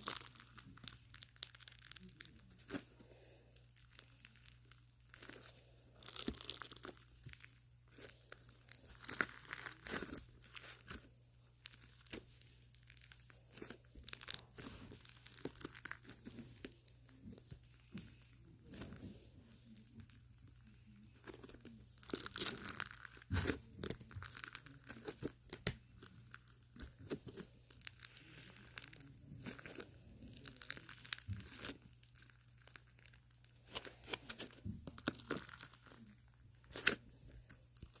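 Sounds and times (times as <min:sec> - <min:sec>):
close rustling and crinkling: 0:00.0 - 0:38.0.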